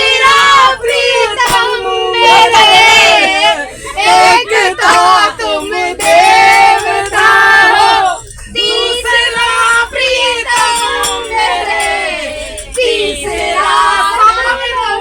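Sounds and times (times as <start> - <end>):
women singing devotional song: 0.0 - 15.0.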